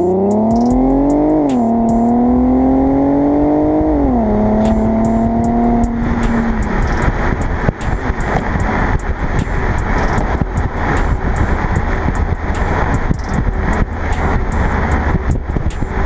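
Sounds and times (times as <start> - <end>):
car engine accelerating: 0.0 - 16.0
wind and road noise: 0.0 - 16.0.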